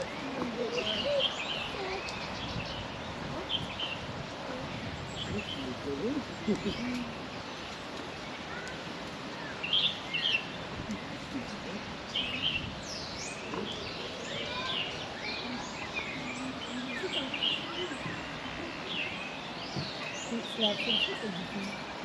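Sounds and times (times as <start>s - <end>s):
birds chirping: 0.0s - 22.0s
outdoor background noise: 0.0s - 22.0s.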